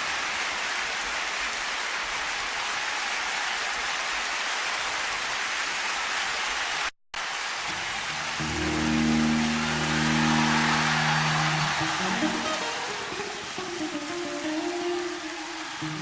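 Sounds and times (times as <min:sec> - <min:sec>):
crowd applauding and cheering: 0:00.0 - 0:16.0.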